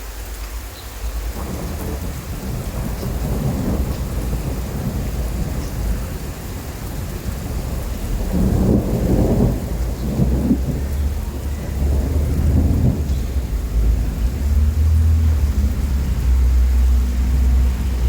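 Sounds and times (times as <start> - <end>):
steady rain: 0.0 - 18.0
thunder rumbling: 1.0 - 18.0.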